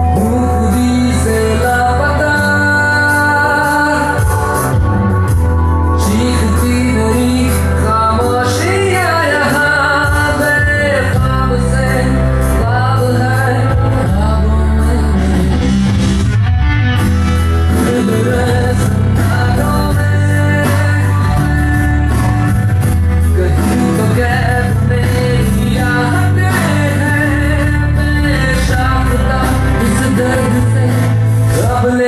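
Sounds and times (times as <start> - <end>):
song with bass beat: 0.0 - 32.0.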